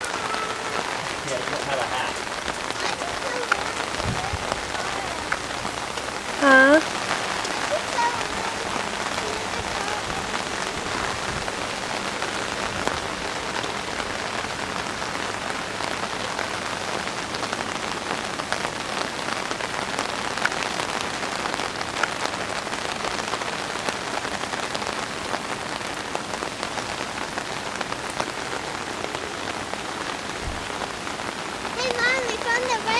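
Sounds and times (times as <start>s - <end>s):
heavy rain falling: 0.0s - 32.9s
rain drop ticks: 0.0s - 32.9s.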